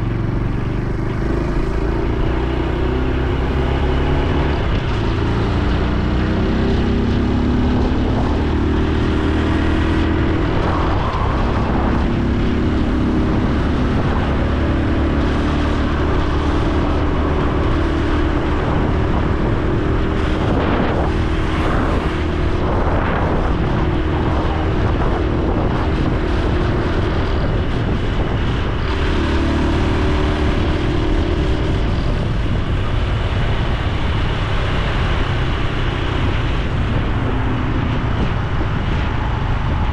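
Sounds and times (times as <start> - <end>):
motorcycle engine and exhaust: 0.0 - 39.9
wind and road noise: 0.0 - 39.9.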